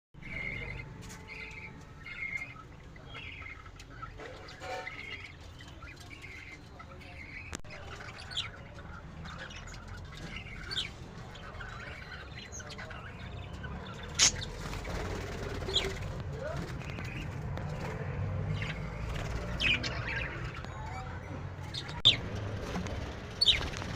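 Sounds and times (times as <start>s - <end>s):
budgies chirping and chattering: 0.2s - 23.9s.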